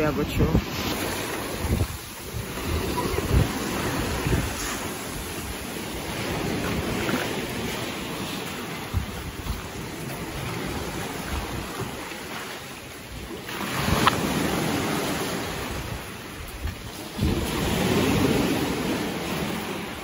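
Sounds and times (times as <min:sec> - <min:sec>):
waves breaking on pebbly shore: 0:00.0 - 0:20.0.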